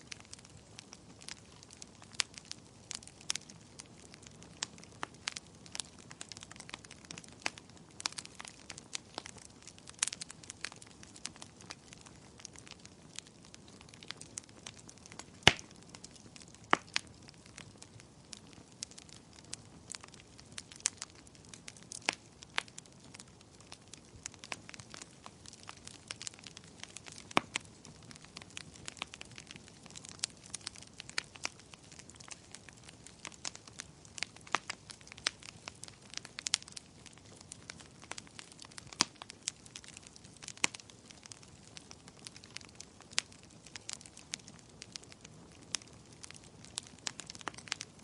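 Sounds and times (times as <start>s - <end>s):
faint fire hiss: 0.0s - 48.0s
wood fire crackling and popping: 0.0s - 48.0s.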